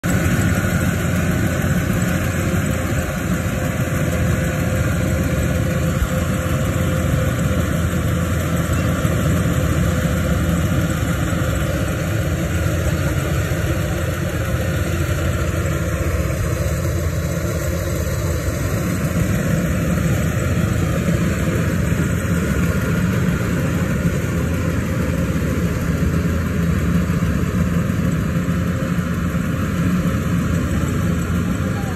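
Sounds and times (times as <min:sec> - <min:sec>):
combine harvester running: 0:00.0 - 0:31.9.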